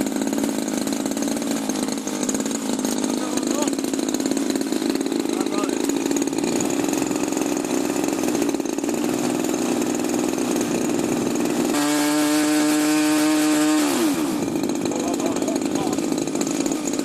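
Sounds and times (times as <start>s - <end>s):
aircraft engine buzzing drone: 0.0s - 17.0s.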